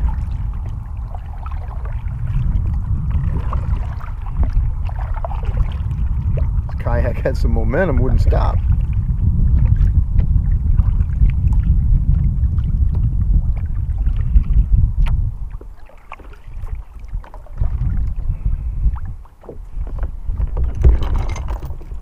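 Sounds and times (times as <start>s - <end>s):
kayak paddle splashing: 0.0s - 7.2s, 7.9s - 21.0s
wind noise on microphone: 0.0s - 22.0s.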